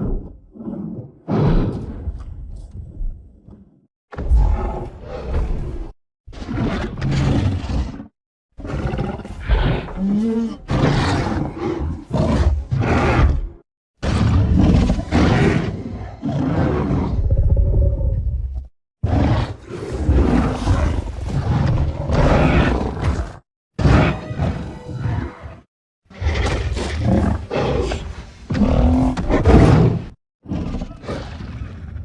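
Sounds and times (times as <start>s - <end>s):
giant ape roaring and growling: 4.2s - 32.0s.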